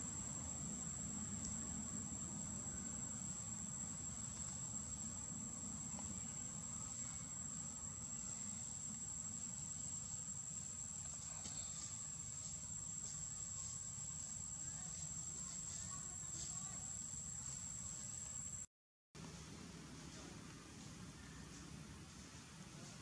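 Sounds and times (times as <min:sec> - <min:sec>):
high-pitched insect drone: 0:00.0 - 0:18.7.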